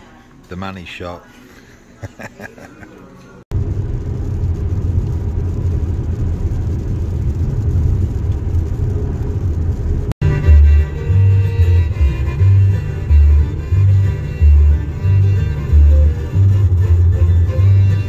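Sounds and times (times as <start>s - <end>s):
car road and engine noise: 3.5s - 18.0s.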